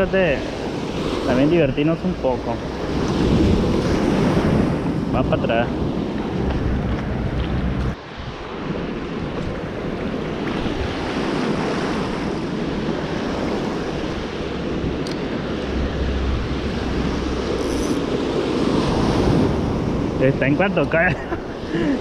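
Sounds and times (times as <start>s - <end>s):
surf washing over sand: 0.0s - 22.0s
wind rumbling on microphone: 0.0s - 22.0s.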